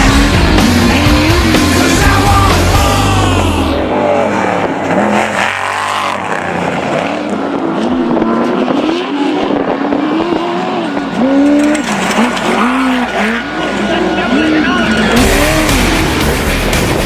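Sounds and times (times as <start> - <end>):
race vehicle engine revving: 0.0 - 17.0.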